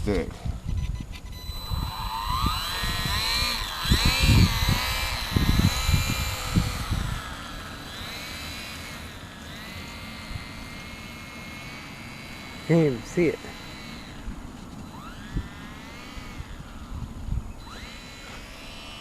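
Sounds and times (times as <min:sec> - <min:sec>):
wind rumbling on microphone: 0:00.0 - 0:10.9, 0:11.8 - 0:19.0
model airplane motor whining: 0:00.4 - 0:19.0.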